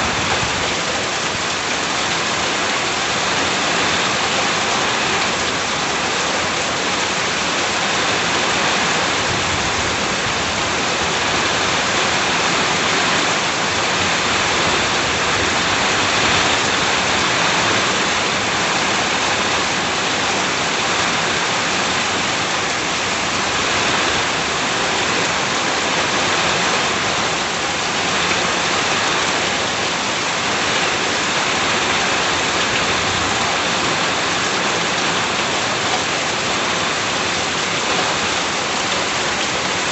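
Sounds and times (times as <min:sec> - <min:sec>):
heavy rain on a house: 0:00.0 - 0:39.9.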